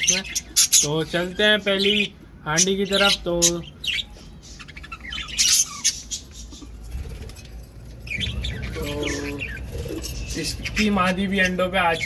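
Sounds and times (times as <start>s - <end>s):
budgerigars chirping and chattering: 0.0s - 12.0s.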